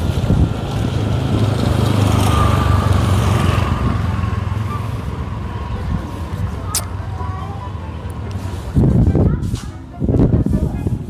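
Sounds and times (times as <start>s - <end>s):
vehicle engine droning: 0.0s - 9.3s.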